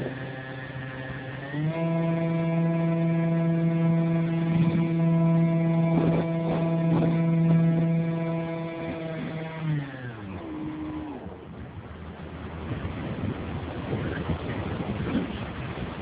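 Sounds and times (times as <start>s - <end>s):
model airplane motor and propeller: 0.0s - 16.0s.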